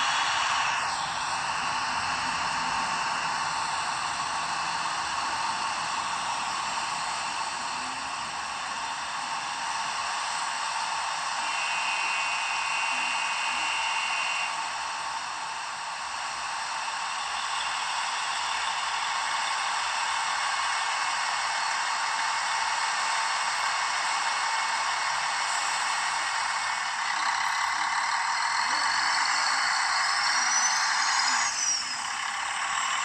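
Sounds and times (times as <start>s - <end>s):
train sound effect hiss: 0.0s - 33.0s.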